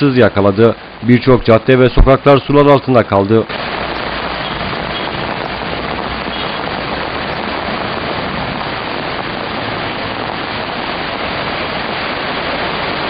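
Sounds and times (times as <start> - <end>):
cars driving through flood water: 0.0 - 13.0
heavy rain: 0.0 - 13.0.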